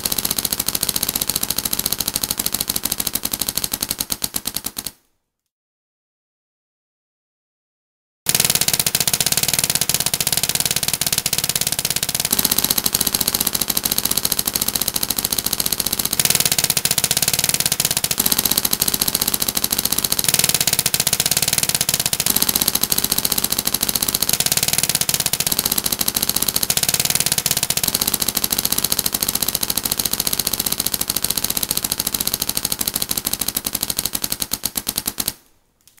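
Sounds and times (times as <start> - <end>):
paintball markers firing rapidly: 0.0 - 5.1, 8.3 - 36.0.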